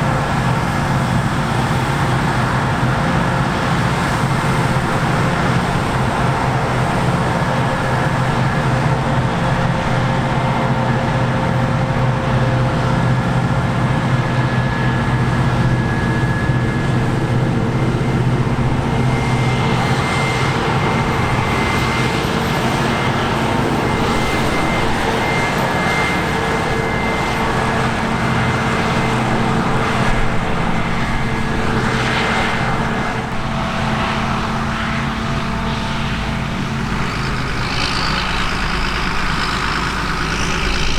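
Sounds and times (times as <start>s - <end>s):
diesel engines running: 0.0s - 40.9s
high-pitched whine: 0.0s - 40.9s.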